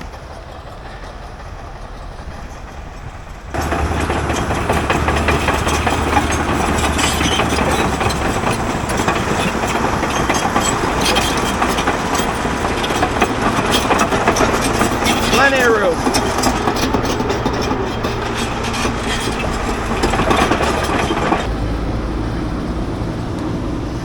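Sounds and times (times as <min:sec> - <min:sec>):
truck engines humming and rattling: 0:00.0 - 0:24.0.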